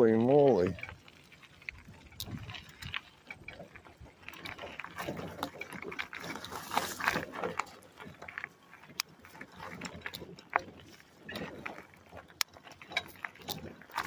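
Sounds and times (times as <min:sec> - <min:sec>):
footsteps on gravel: 0:00.0 - 0:14.0
stones clicking: 0:00.6 - 0:14.0.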